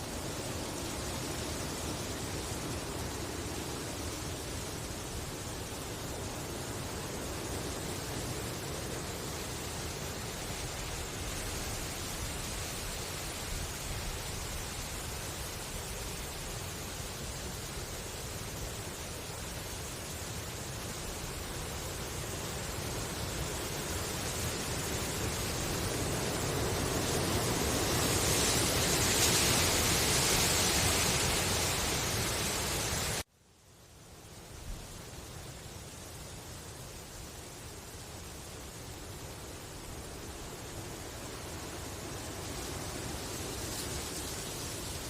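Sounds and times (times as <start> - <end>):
wind rustling bamboo leaves: 0.0 - 45.0.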